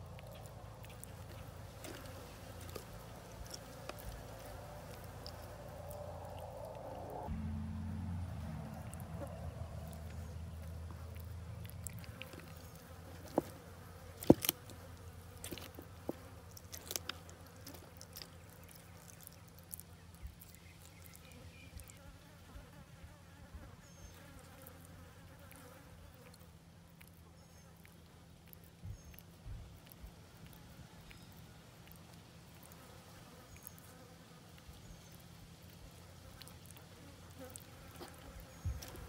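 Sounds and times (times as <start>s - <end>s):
flies buzzing: 0.0s - 26.5s, 30.4s - 39.0s.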